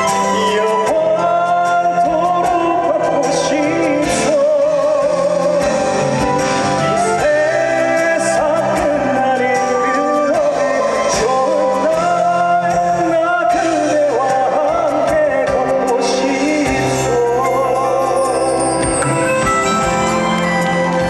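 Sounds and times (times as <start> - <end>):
instrumental accompaniment: 0.0 - 21.0
person singing with vibrato: 0.0 - 21.0.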